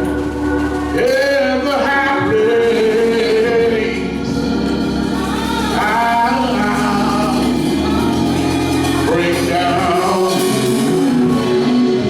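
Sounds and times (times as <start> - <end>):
person singing gospel: 0.0 - 12.0
sustained organ: 0.0 - 12.0.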